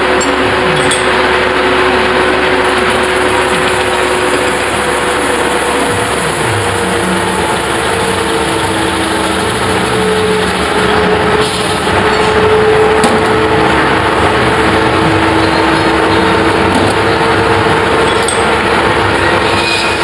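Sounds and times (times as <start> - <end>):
metal-spinning lathe running: 0.0 - 20.0.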